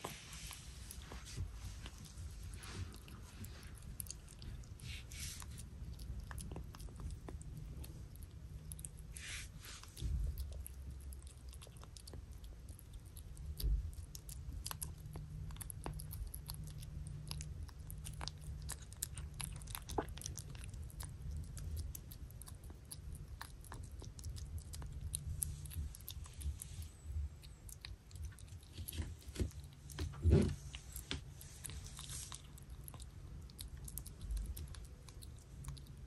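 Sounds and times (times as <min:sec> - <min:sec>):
kitten chewing wet food: 0:00.0 - 0:36.0.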